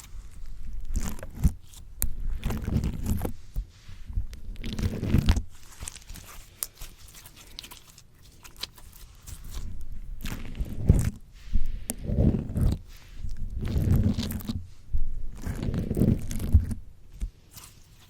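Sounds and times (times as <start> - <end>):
slime squelching: 0.0 - 18.0.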